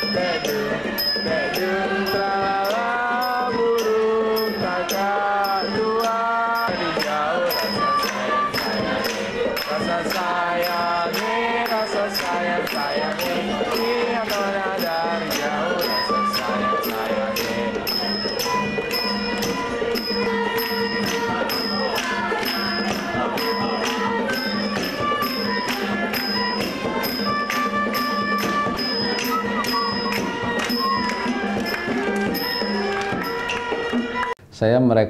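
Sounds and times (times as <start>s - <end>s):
bamboo flute: 0.0s - 34.4s
bowed fiddles: 0.0s - 34.4s
struck string instrument: 0.0s - 34.4s.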